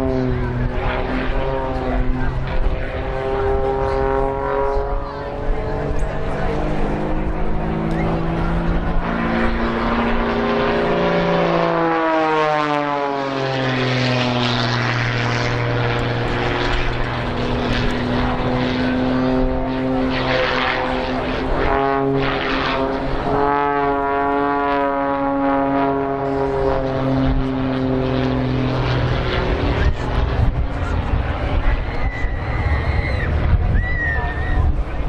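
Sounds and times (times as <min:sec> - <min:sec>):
biplane engine and propeller: 0:00.0 - 0:35.0.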